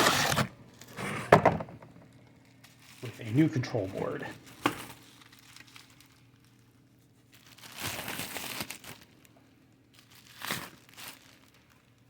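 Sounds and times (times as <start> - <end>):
packaging crinkling: 2.1 - 12.0.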